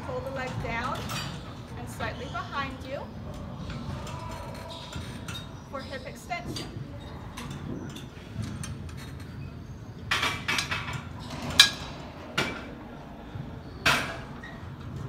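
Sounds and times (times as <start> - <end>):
exercise machine metal clanking: 0.0 - 15.0.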